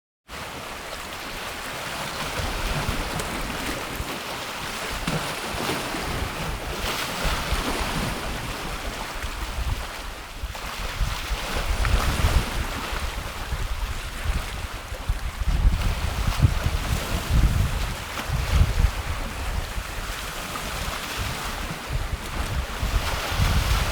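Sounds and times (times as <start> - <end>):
waves washing onto shore: 0.3 - 23.9
wind buffeting microphone: 1.4 - 23.9.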